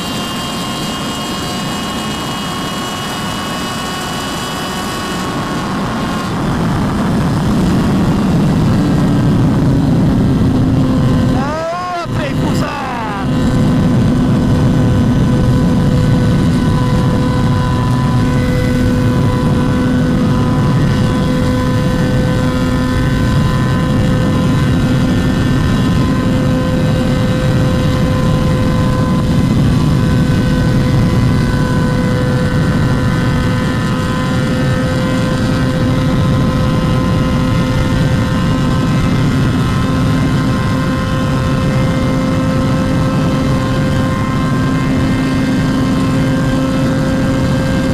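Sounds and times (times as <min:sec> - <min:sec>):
heavy wind rush: 0:00.0 - 0:47.9
motorcycle engine at high speed: 0:00.0 - 0:47.9.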